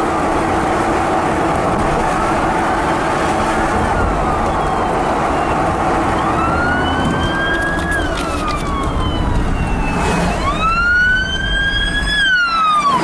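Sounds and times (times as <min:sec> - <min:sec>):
wind and rain rushing: 0:00.0 - 0:12.0
siren wailing: 0:02.0 - 0:13.0.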